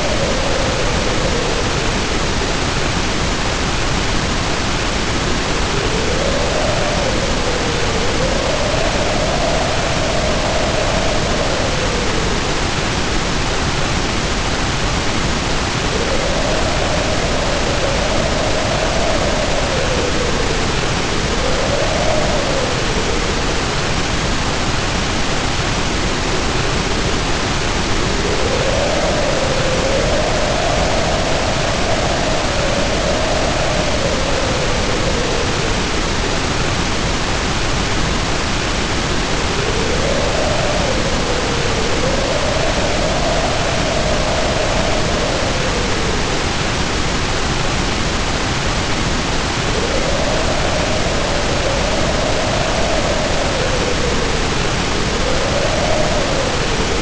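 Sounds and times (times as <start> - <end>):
heavy rain pouring: 0.0 - 57.0
wind howling: 0.0 - 57.0.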